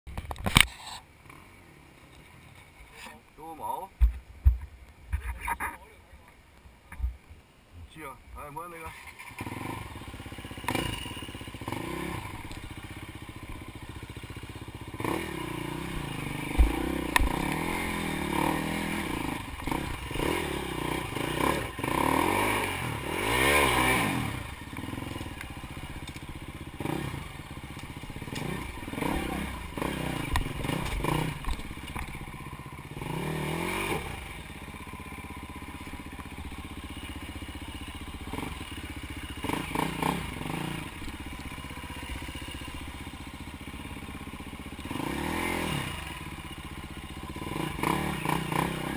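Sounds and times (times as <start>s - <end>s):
dirt bike engine revving: 8.8s - 48.9s.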